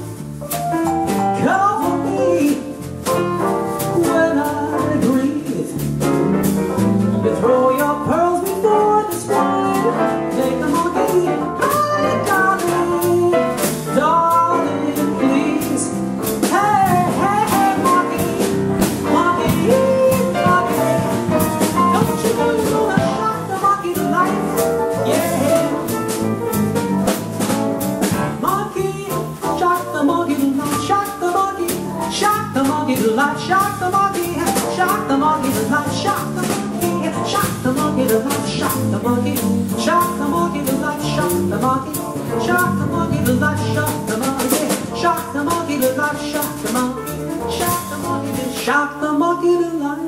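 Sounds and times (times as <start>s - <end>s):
jazz band playing: 0.0s - 50.0s
man singing: 1.4s - 6.1s, 7.1s - 26.0s, 28.4s - 50.0s.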